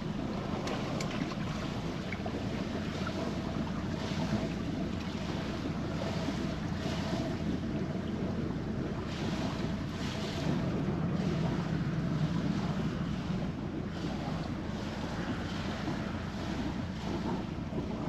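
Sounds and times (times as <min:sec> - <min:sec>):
boat engine humming: 0:00.0 - 0:18.0
wind on microphone: 0:00.0 - 0:18.0.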